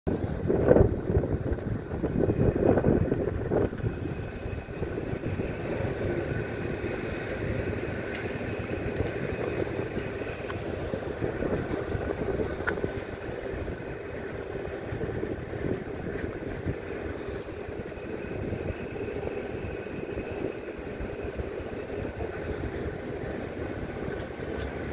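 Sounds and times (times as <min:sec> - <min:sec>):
low rumble of traffic: 0:00.1 - 0:24.9.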